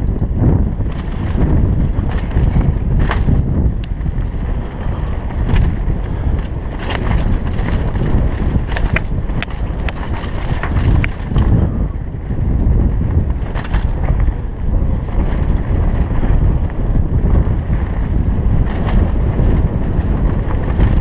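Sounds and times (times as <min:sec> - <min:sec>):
bike clicks and rattles: 0:00.0 - 0:21.0
wind buffeting microphone: 0:00.0 - 0:21.0.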